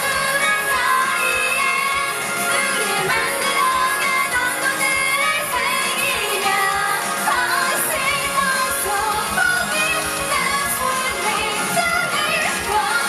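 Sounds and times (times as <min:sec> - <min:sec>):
live pop song with singing: 0:00.0 - 0:13.0.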